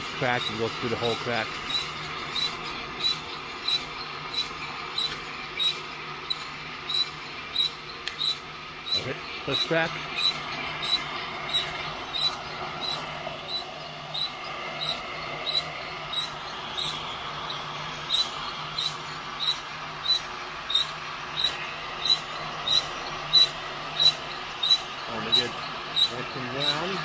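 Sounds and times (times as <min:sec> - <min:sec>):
heat gun blowing: 0:00.0 - 0:27.0
rotating metal drum squeaking: 0:00.0 - 0:27.0.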